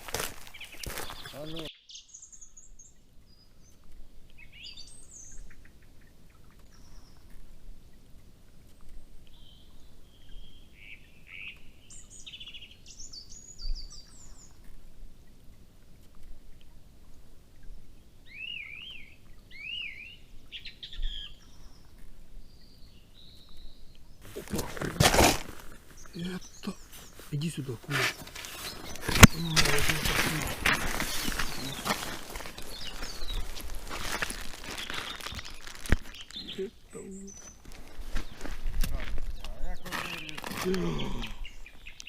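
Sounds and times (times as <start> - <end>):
songbirds chirping and trilling: 0.0 - 42.0.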